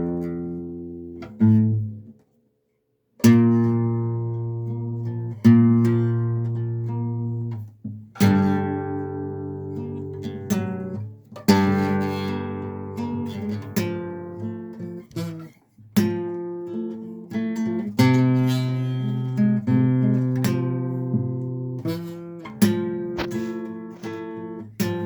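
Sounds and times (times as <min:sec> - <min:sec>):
acoustic guitar strummed and plucked: 0:00.0 - 0:02.2, 0:03.2 - 0:25.0.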